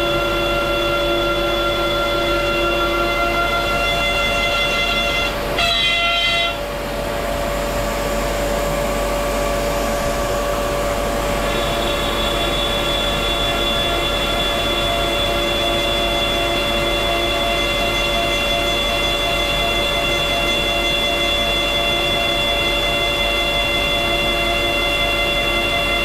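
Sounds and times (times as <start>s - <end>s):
milling machine spindle whine: 0.0s - 26.0s.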